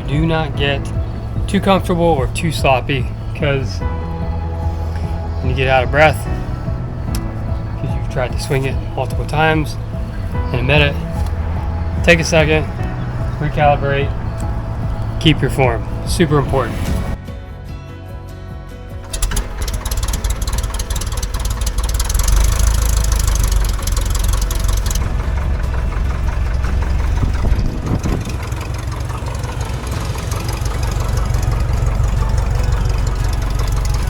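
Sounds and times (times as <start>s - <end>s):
airplane engine starting and running: 0.0s - 17.2s, 19.0s - 34.0s.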